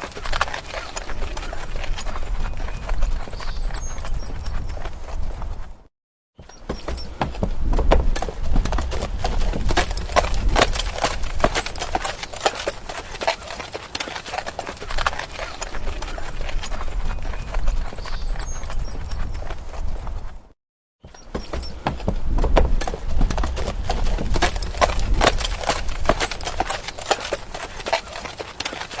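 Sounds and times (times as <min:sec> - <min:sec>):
horse hooves clip-clopping: 0:00.0 - 0:29.0.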